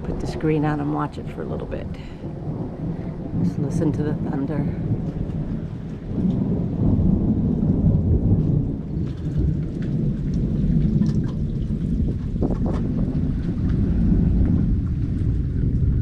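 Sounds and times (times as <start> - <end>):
rain falling: 0.0 - 16.0
thunder rolling: 0.0 - 16.0.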